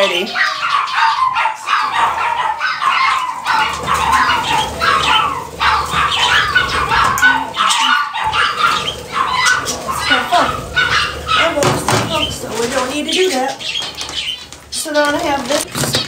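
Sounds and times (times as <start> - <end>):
birds chattering and squawking: 0.0 - 16.0.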